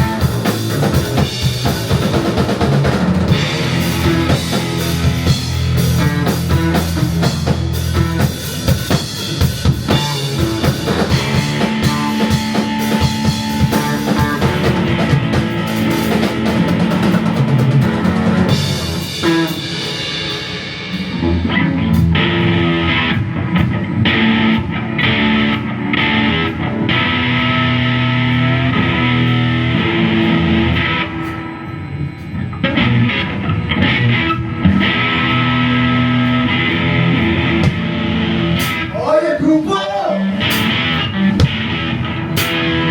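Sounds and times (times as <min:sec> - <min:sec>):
bass: 0:00.0 - 0:42.9
drum kit: 0:00.0 - 0:42.9
electric guitar: 0:00.0 - 0:42.9.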